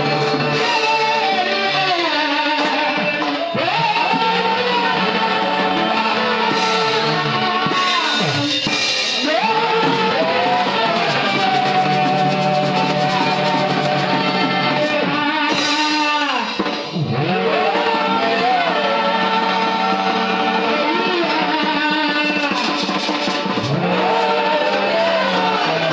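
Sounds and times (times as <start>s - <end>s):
drums: 0.0s - 25.9s
guitar: 0.0s - 25.9s
live worship music: 0.0s - 25.9s.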